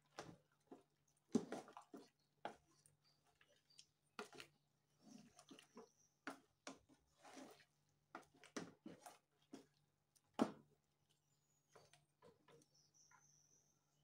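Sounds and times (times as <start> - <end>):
wet squelches of stirred soup: 0.0 - 14.0.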